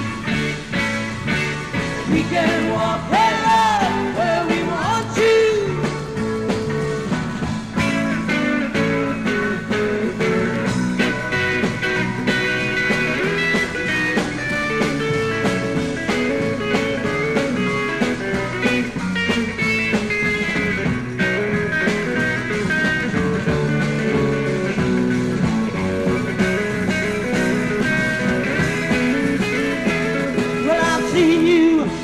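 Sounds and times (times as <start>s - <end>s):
rock band with guitar: 0.0s - 32.0s.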